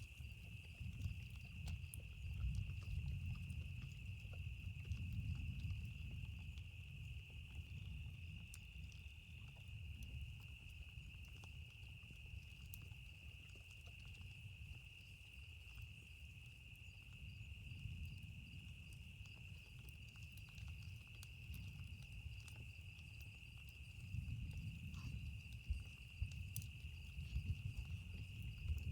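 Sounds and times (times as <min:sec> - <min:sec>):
campfire crackling: 0:00.0 - 0:28.9
crickets chirping: 0:00.0 - 0:28.9.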